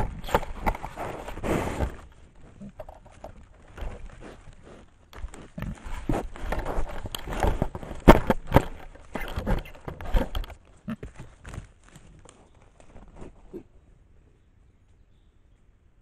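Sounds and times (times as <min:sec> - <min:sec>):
animal bumping camera: 0:00.0 - 0:13.2.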